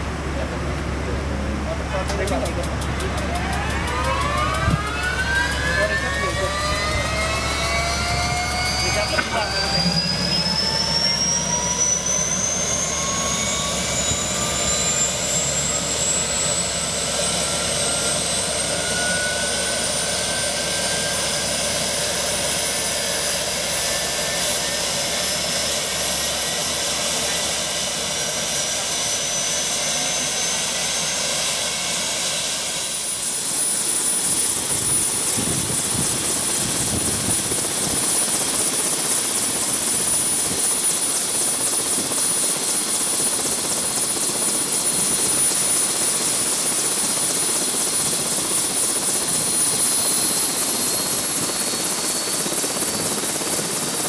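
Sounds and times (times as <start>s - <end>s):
helicopter turbine whine: 0.0s - 54.0s.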